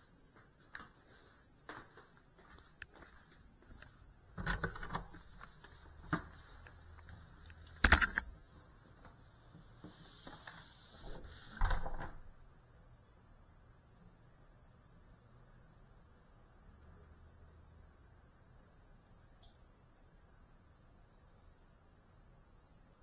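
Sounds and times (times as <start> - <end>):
faint high-pitched electronic whine: 0.0 - 23.0.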